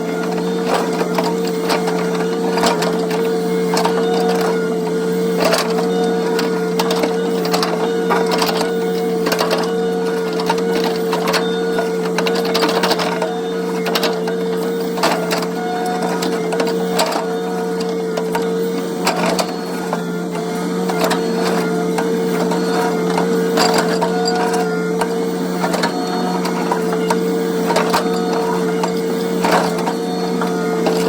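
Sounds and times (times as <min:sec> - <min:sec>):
excavator engine and hydraulic drone: 0:00.0 - 0:31.0.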